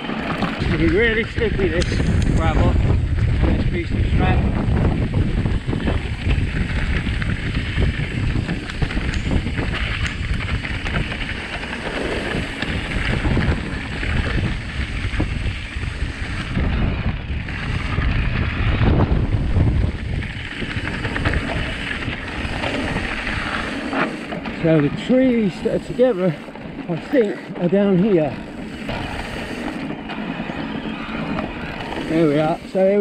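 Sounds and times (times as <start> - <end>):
low rumble of bike tyres: 0.0 - 33.0
wind on microphone: 0.0 - 33.0.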